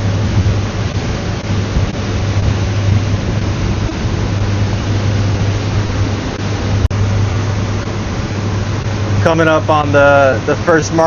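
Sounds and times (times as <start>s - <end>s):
boat motors droning: 0.0s - 11.0s
wind and water rushing: 0.0s - 11.0s.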